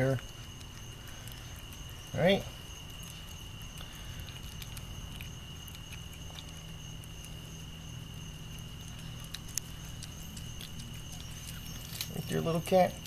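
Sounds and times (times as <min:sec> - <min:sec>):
cat chewing and licking: 0:00.0 - 0:13.0.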